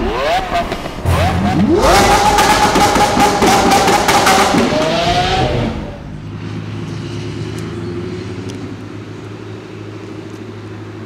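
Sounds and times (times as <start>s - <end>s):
engine revving with crackles: 0.0s - 9.4s
car engine at low revs: 0.0s - 11.0s.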